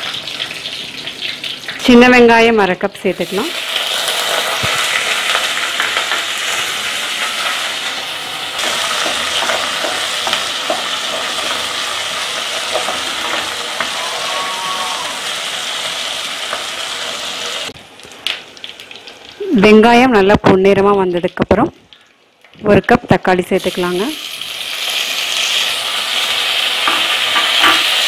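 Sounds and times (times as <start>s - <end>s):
shallots and garlic sizzling in oil: 0.0s - 21.7s, 22.6s - 28.0s.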